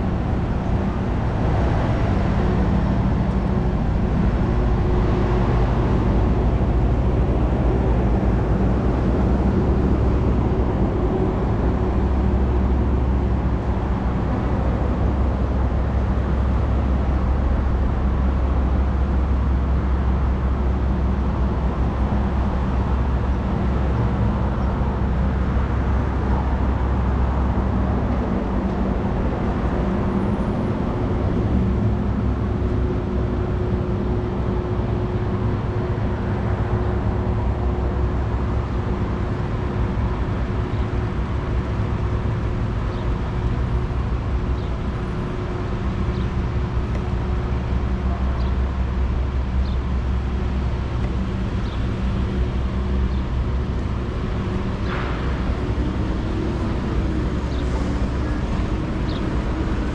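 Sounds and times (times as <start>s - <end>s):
low rumble of vehicles: 0.0s - 59.9s.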